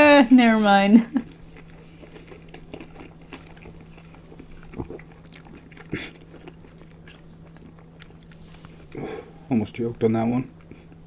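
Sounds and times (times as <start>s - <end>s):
steady low hum: 0.0s - 11.0s
chewing and biting food: 1.2s - 11.0s.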